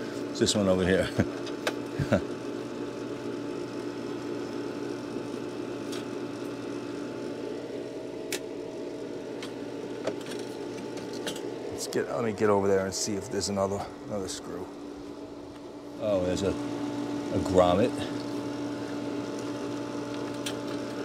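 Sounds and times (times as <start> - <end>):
pump motor humming: 0.0 - 21.0.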